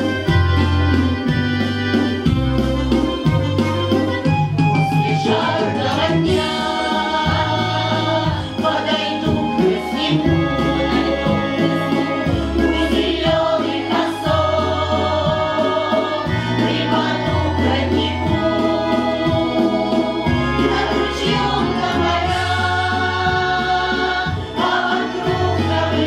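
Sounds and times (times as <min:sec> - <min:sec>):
instrumental accompaniment with bass: 0:00.0 - 0:26.0
women singing folk song together: 0:05.1 - 0:26.0.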